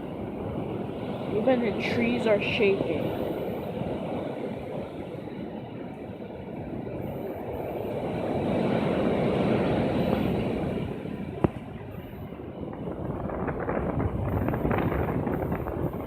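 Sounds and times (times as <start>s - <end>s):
strong wind gusting: 0.0s - 16.0s.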